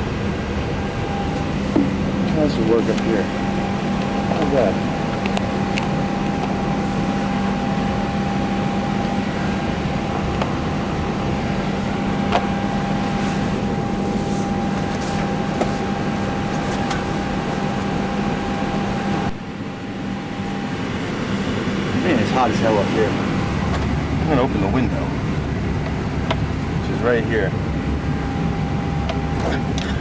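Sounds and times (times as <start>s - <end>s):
cockpit hum and fan noise: 0.0s - 30.0s
constant whining tone: 0.0s - 30.0s.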